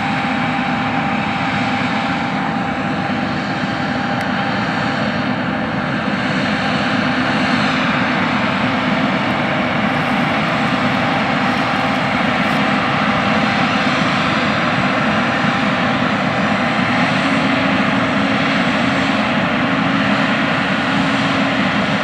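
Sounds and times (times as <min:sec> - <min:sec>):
combine harvester diesel drone: 0:00.0 - 0:22.0.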